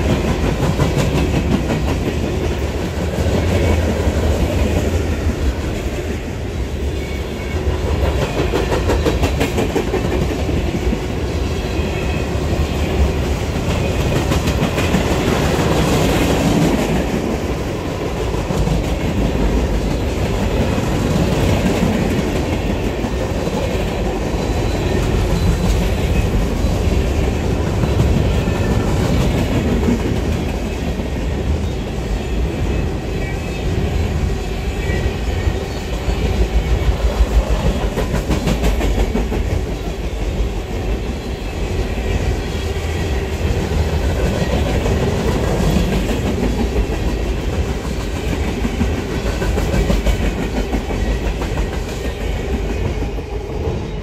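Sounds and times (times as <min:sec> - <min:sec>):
train wheels clicking over rails: 0:00.0 - 0:33.2, 0:34.1 - 0:54.0
low train rumble: 0:00.0 - 0:54.0.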